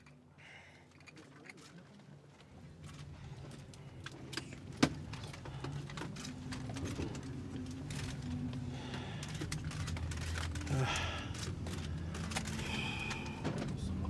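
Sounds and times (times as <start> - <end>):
low steady hum: 0.0 - 14.0
scattered clicks and rustles: 0.9 - 14.0.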